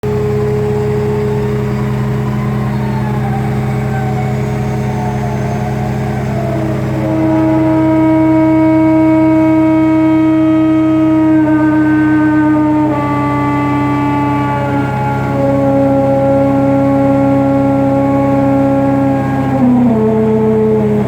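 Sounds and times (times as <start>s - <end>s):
excavator running with whine: 0.0s - 21.0s
steady droning tone: 0.0s - 21.0s.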